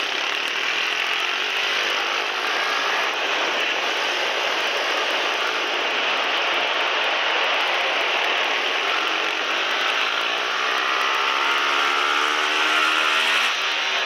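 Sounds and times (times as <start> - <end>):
pit bike engine running hard: 0.0 - 14.0.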